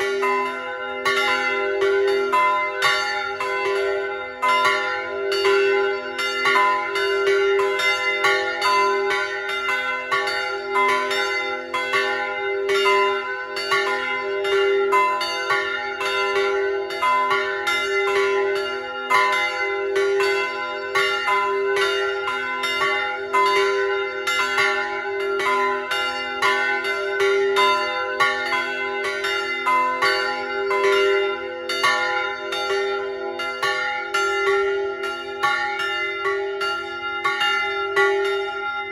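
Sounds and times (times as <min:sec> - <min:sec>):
church bells ringing in peal: 0:00.0 - 0:38.9.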